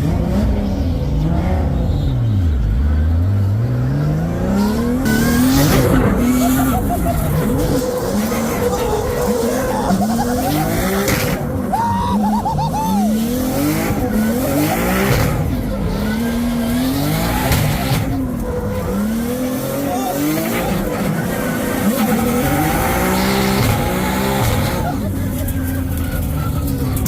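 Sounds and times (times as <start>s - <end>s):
car engine revving: 0.0s - 27.0s
tyres squealing: 4.4s - 27.0s.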